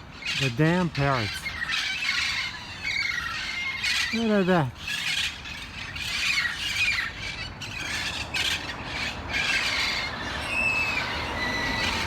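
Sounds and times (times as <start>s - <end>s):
parrots squawking: 0.0s - 12.0s.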